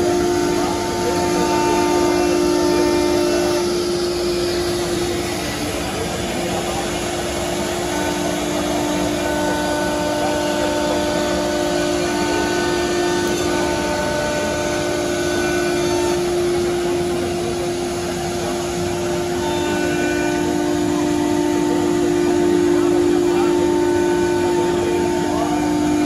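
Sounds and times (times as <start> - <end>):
router spindle whine: 0.0 - 26.0.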